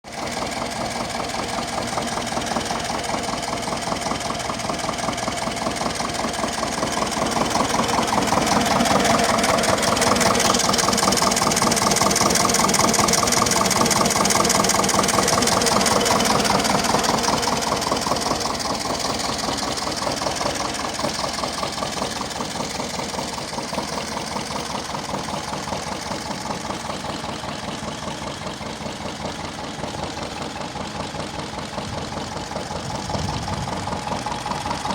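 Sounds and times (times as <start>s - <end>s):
tractor diesel engine knocking: 0.0s - 34.9s.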